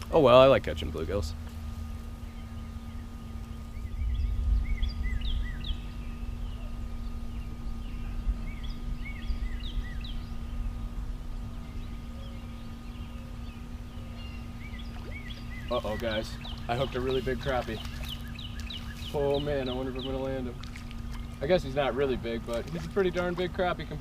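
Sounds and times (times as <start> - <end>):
birds chirping: 0.0 - 24.0
low rumble: 0.0 - 24.0
steady low hum: 0.0 - 24.0.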